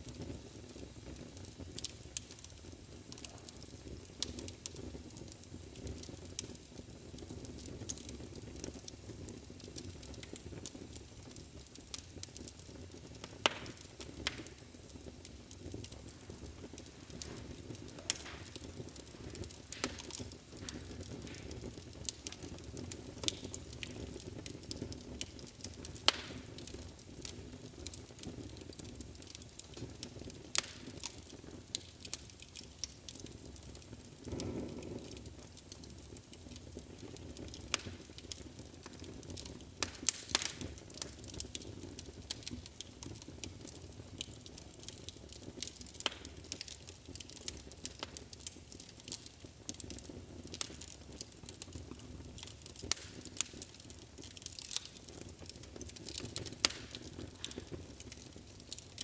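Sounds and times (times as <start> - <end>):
fire crackles and pops: 0.0 - 59.0
wood fire rumbling: 0.0 - 59.0.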